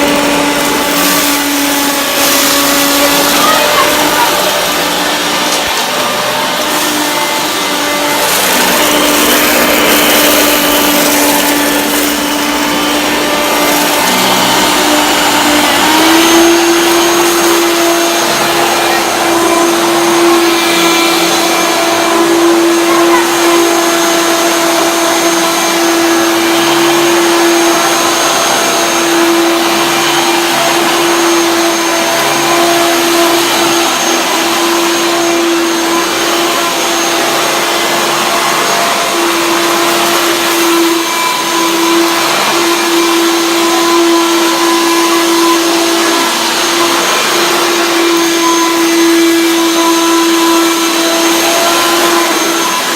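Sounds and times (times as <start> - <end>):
vacuum cleaner motor whine: 0.0 - 52.9.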